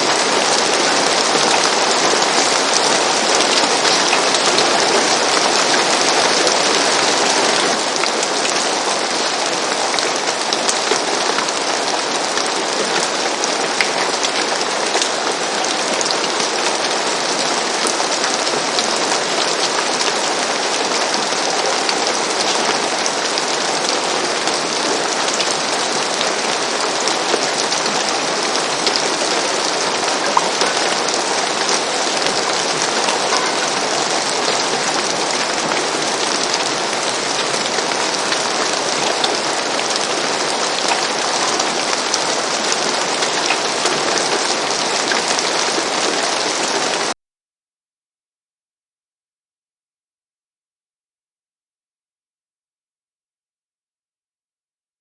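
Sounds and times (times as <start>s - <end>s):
rain on a roof: 0.0s - 47.2s.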